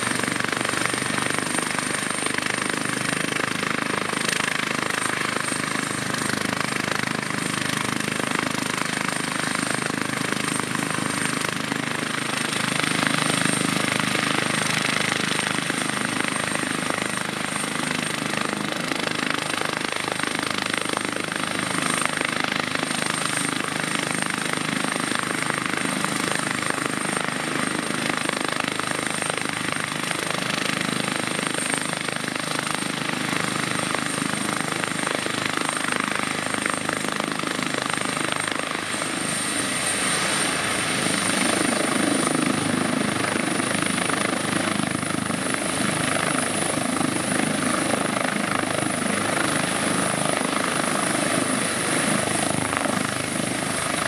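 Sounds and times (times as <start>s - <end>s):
helicopter rotors turning: 0.0s - 54.0s.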